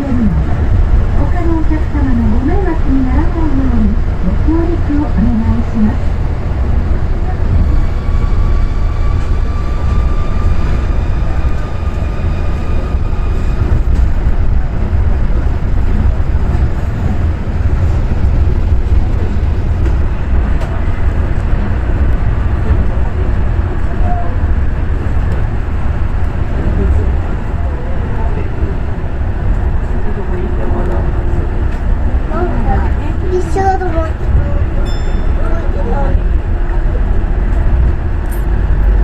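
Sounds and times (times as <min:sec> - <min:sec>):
train tyres rumbling on track: 0:00.0 - 0:39.0.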